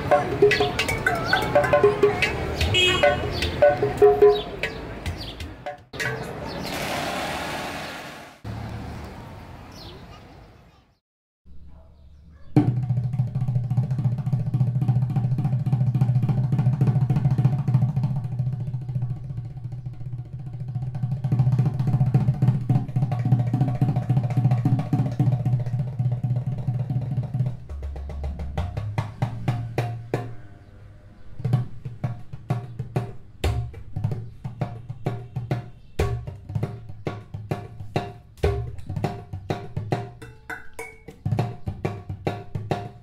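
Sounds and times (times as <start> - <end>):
clay drum played by hand: 0.0 - 6.4, 12.6 - 30.4, 31.4 - 43.0.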